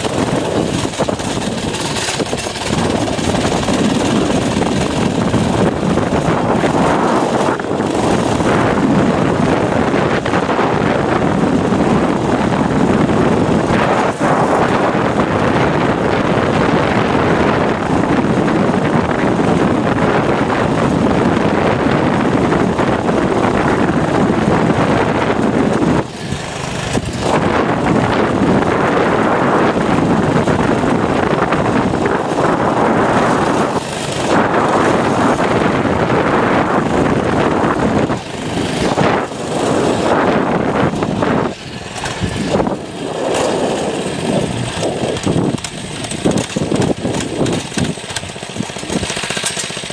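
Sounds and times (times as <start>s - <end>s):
small engine running: 0.0s - 49.9s
wind rushing over microphone: 0.0s - 49.9s.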